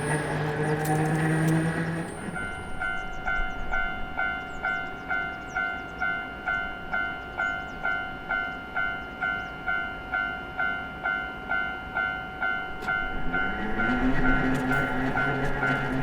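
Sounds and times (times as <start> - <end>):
approaching train: 0.0 - 16.0
level-crossing warning bell: 0.0 - 16.0.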